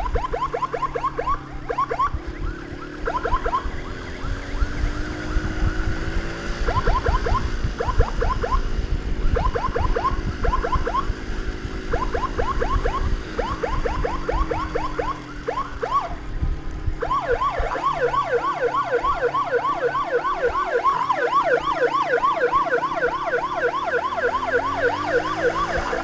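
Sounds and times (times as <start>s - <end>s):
electronic siren chirping: 0.0s - 26.0s
motorcycle engine rumble: 0.0s - 26.0s
wind: 0.0s - 26.0s.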